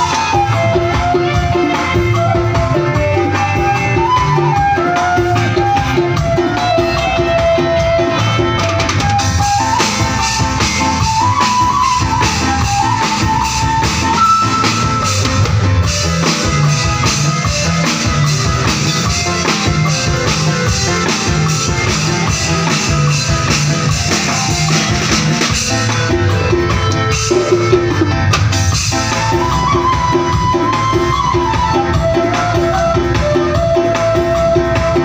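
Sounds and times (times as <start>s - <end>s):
drum kit beat: 0.0s - 35.0s
upbeat instrumental music: 0.0s - 35.0s.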